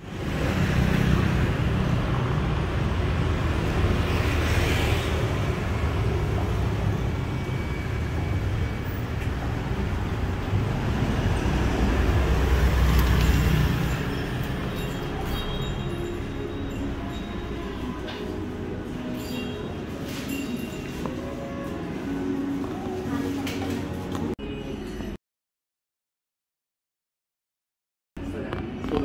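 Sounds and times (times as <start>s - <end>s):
passing vehicles rumble: 0.0s - 24.4s.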